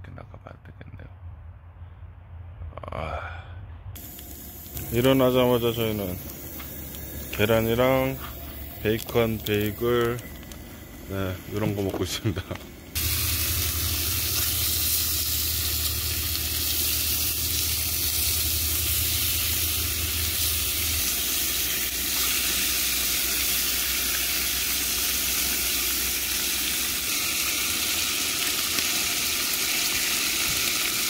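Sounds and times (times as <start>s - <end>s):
low hum: 0.0s - 27.4s
bacon sizzling in a skillet: 4.0s - 12.0s, 12.7s - 31.0s.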